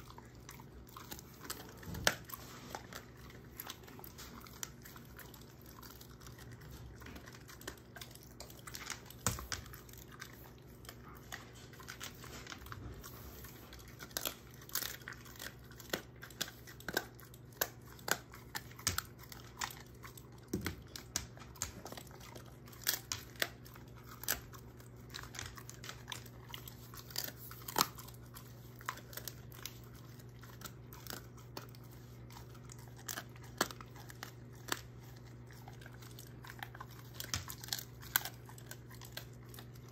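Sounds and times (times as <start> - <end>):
dog crunching a hard treat: 0.0 - 39.9.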